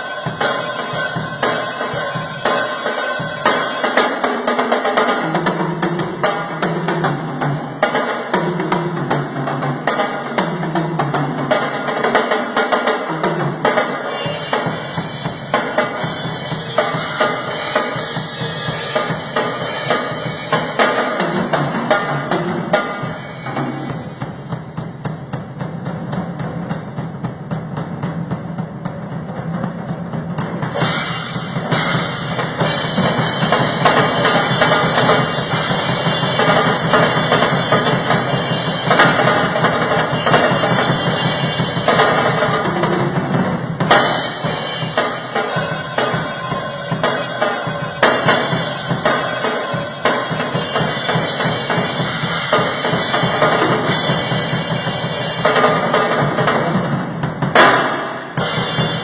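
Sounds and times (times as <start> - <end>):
drum kit playing rapid pattern: 0.0 - 59.0.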